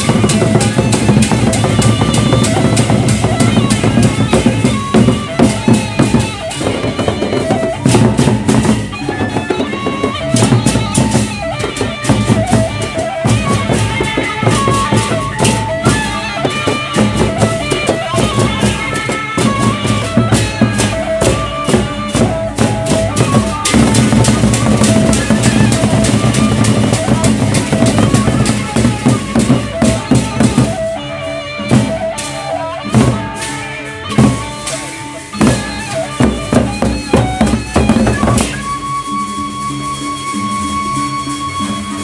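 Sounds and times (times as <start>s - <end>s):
drums beating: 0.0s - 42.0s
held metallic melody notes: 0.0s - 42.0s.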